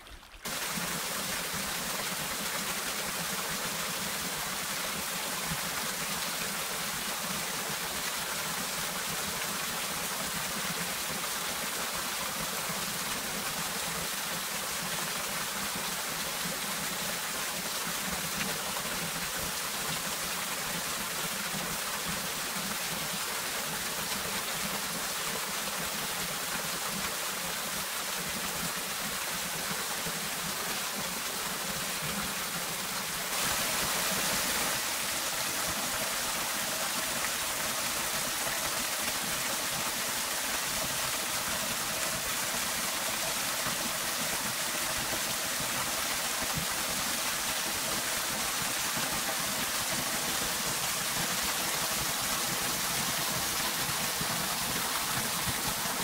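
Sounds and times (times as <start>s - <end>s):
small waterfall splashing on rocks: 0.0s - 56.0s.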